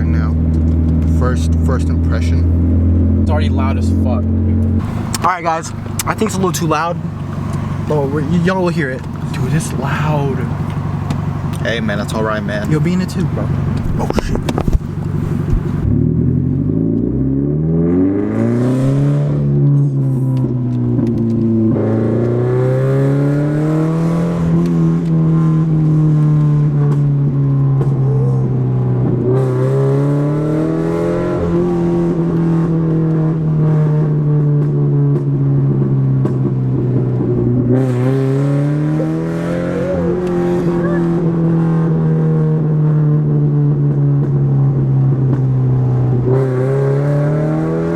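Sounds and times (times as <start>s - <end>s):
loud car exhaust driving: 0.0s - 47.9s.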